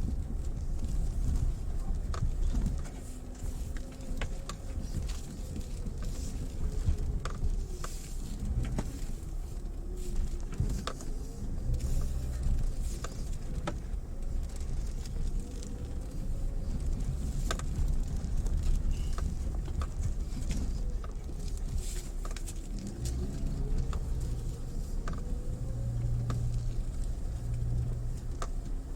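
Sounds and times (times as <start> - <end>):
engine and tyre rumble: 0.0 - 28.9
gravel clicking under tyres: 0.0 - 28.9.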